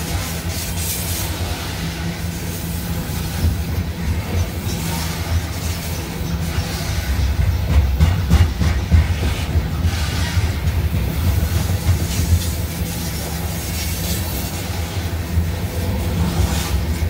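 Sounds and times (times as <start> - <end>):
freight train rumbling: 0.0 - 17.0
wheels clanking over rail joints: 2.7 - 17.0.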